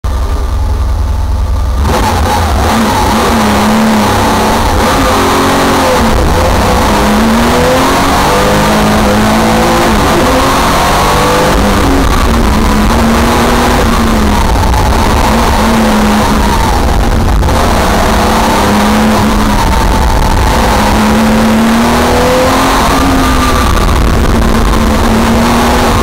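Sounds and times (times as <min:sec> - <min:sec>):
car engine revving hard: 0:01.6 - 0:26.0.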